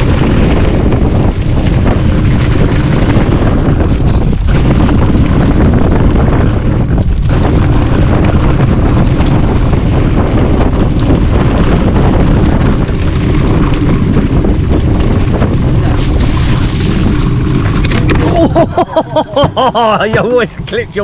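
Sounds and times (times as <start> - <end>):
mountain bike knocks and rattles: 0.0 - 18.4
wind buffeting microphone: 0.0 - 21.0.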